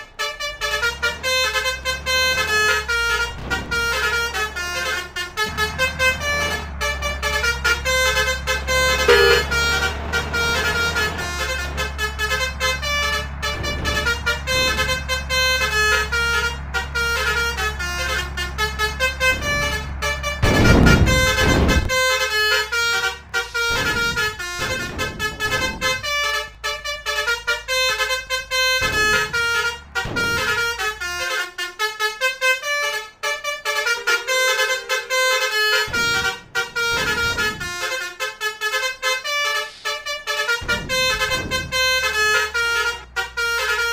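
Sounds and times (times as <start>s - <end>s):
low vehicle rumble: 0.0s - 43.9s
musical air horns playing a tune: 0.0s - 43.9s.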